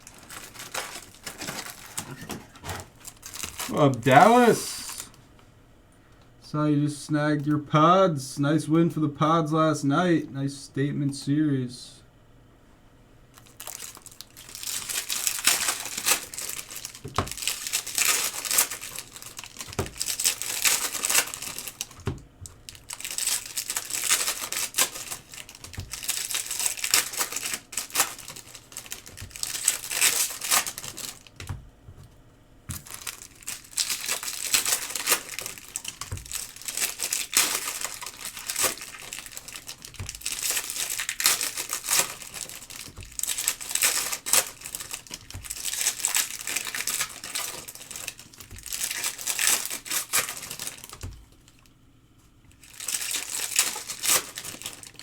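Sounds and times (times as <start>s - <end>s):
foil wrappers tearing and crinkling: 0.0s - 5.2s, 13.4s - 31.5s, 32.7s - 51.7s, 52.5s - 55.0s.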